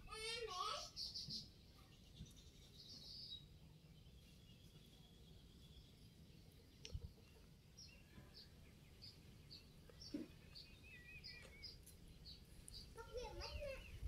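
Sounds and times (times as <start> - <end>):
bird chirping faintly: 0.2 - 14.0.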